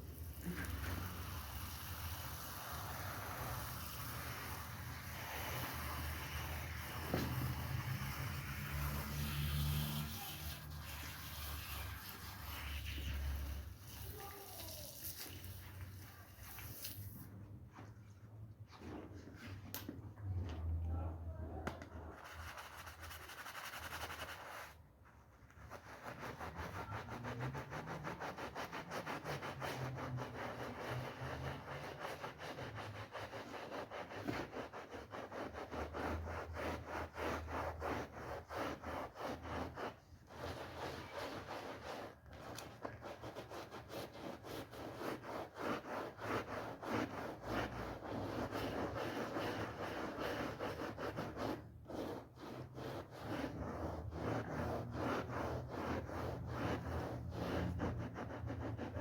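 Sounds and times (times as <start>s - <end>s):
brush scrubbing rug: 0.0s - 18.1s, 22.0s - 59.0s.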